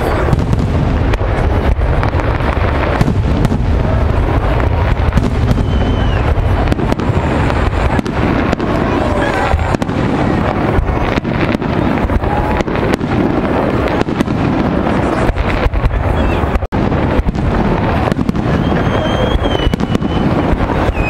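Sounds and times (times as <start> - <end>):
heavy low rumble: 0.0 - 19.5
firework bangs and crackles: 0.0 - 21.0.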